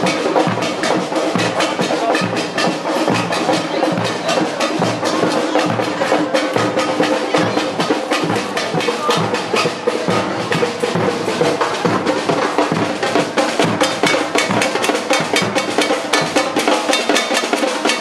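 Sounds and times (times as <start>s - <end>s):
bass drum: 0.0s - 17.2s
samba drums playing: 0.0s - 18.0s.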